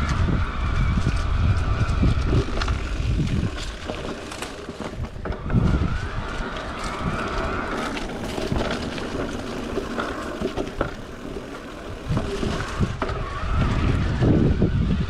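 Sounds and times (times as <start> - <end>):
bike clicks and rattles: 0.0 - 15.0
bike tyre rumble on dirt: 0.0 - 15.0
wind buffeting microphone: 0.0 - 15.0.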